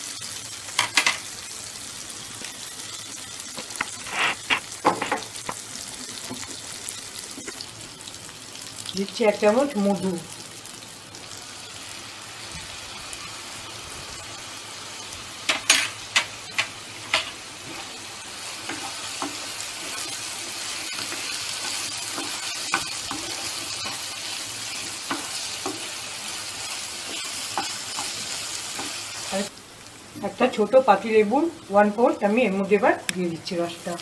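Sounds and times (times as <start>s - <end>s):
food sizzling in hot oil: 0.0s - 34.0s.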